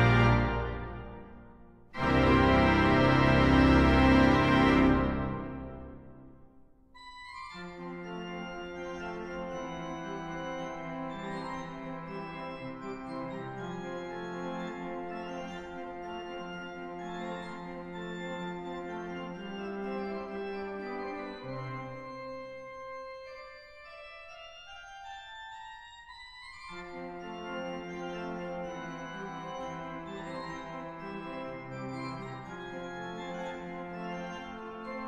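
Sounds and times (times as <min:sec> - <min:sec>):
organ playing chords: 0:00.0 - 0:06.3, 0:07.7 - 0:35.0.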